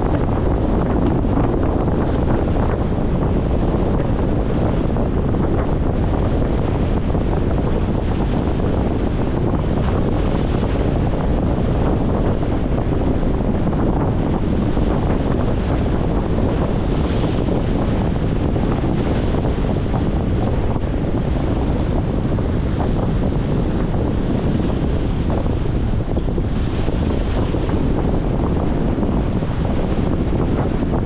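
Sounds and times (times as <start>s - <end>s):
strong wind buffeting microphone: 0.0s - 31.0s
waves washing against concrete: 0.0s - 31.0s.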